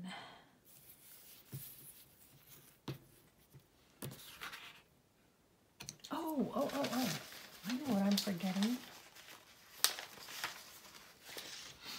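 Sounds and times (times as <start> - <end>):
light paper rustle: 0.7 - 4.9, 6.1 - 11.9.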